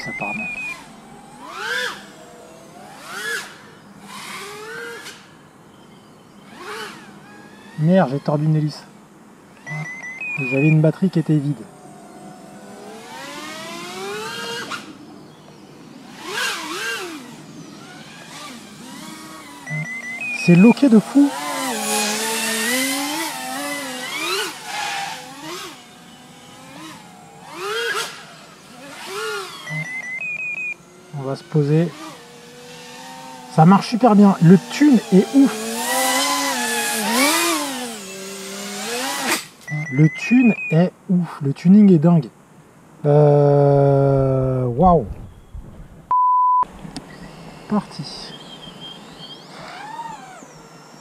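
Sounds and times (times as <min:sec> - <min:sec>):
drone motors whining: 0:00.0 - 0:40.9, 0:43.1 - 0:46.1, 0:46.7 - 0:51.0.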